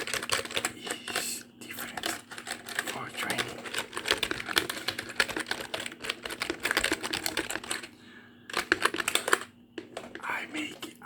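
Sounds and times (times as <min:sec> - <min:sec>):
typing on computer keyboard: 0:00.0 - 0:01.3, 0:01.9 - 0:10.3.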